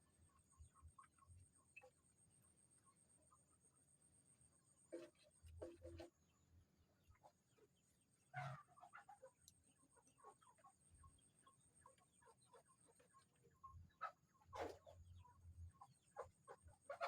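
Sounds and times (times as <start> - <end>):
faint chicken clucking: 0.0 - 17.0.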